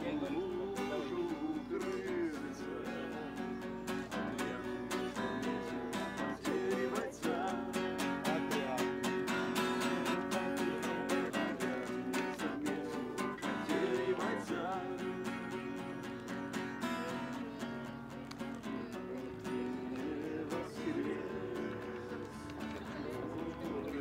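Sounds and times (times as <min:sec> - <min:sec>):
acoustic guitar strumming: 0:00.0 - 0:24.0
man singing: 0:00.0 - 0:24.0.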